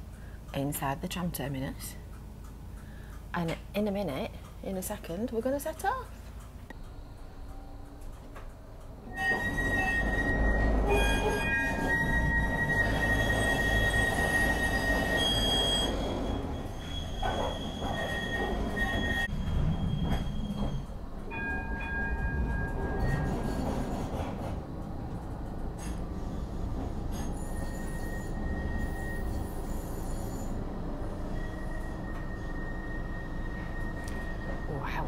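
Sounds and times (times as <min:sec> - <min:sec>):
tram rumble: 0:00.0 - 0:35.0
high whining wheel tones: 0:06.7 - 0:35.0.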